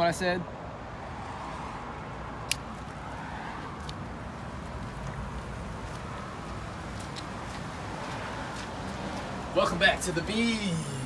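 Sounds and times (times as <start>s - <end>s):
traffic rumble of passing cars: 0.0s - 11.0s.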